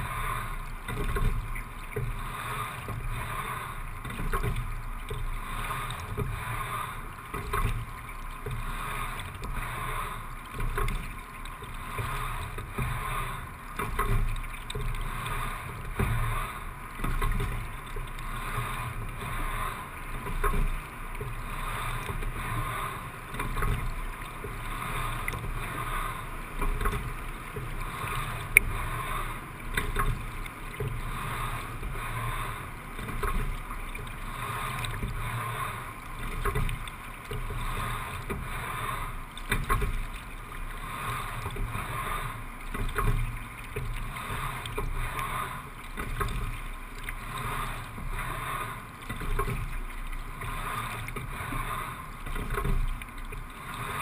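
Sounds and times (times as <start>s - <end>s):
water rushing past hull: 0.0s - 54.0s.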